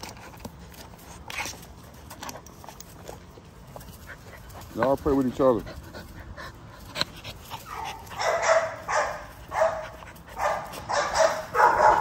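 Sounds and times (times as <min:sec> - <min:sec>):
puppies barking and yipping: 0:00.0 - 0:12.0.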